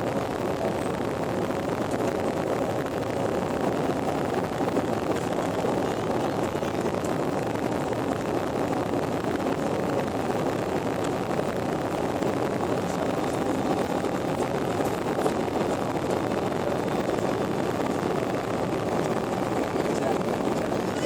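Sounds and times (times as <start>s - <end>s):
airplane taking off: 0.0s - 21.0s.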